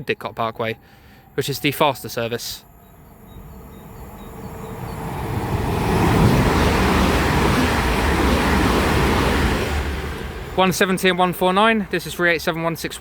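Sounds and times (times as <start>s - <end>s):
train wheels rumbling on rails: 1.7s - 13.0s.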